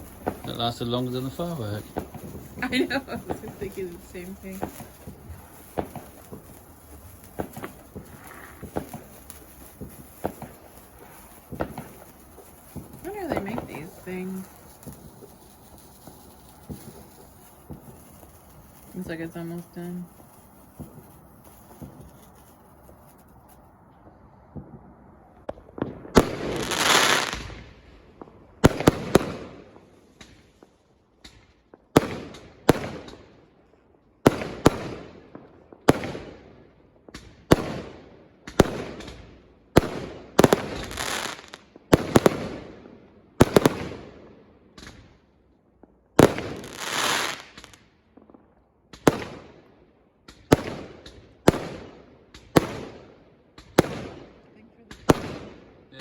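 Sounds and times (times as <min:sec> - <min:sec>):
fireworks rushing crackle: 0:00.0 - 0:33.2, 0:37.2 - 0:42.8, 0:43.4 - 0:44.2, 0:46.1 - 0:49.6, 0:53.6 - 0:56.0
fireworks bangs with rolling echo: 0:00.0 - 0:56.0.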